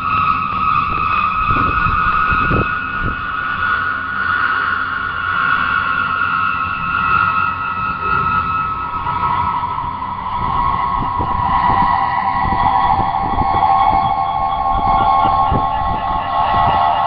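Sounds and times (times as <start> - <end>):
noisy background: 0.0 - 17.0
steady high whine: 0.0 - 17.0.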